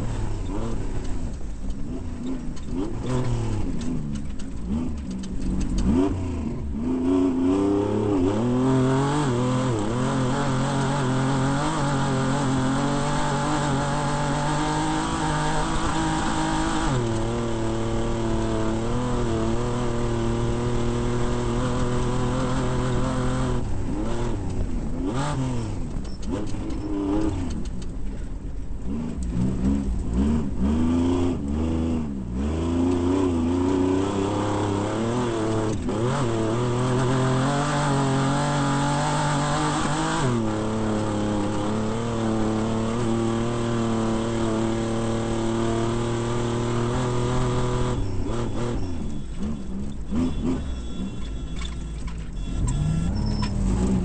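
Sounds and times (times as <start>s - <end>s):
race vehicle engine revving: 0.0s - 27.7s, 28.8s - 54.0s.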